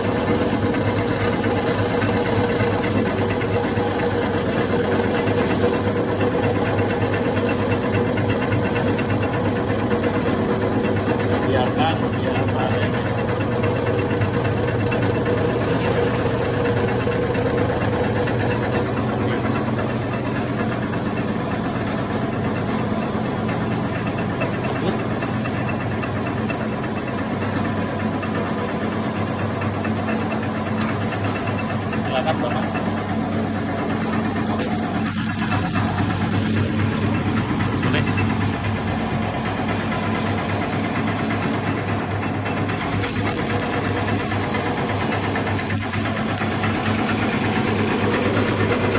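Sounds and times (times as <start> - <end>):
bread slicer motor humming: 0.0 - 48.9.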